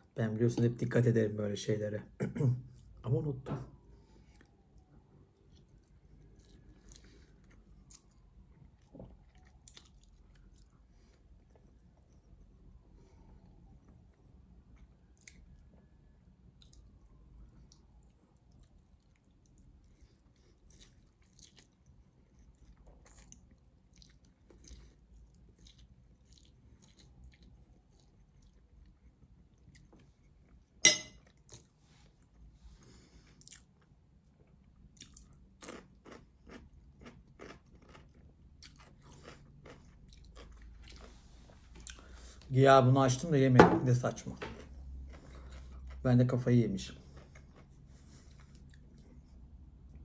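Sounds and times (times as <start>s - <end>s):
person chewing food: 5.4s - 15.9s, 16.5s - 42.5s, 44.4s - 46.0s, 46.9s - 50.0s.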